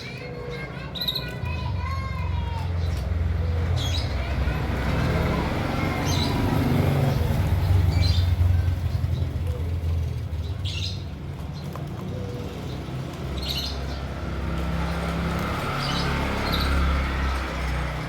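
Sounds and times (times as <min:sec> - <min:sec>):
cage birds chirping: 0:00.0 - 0:18.0
vehicle engine passing by: 0:02.6 - 0:18.0.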